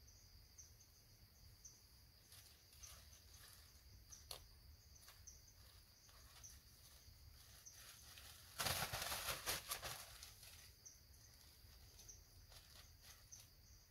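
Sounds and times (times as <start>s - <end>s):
insects trilling: 0.0s - 13.9s.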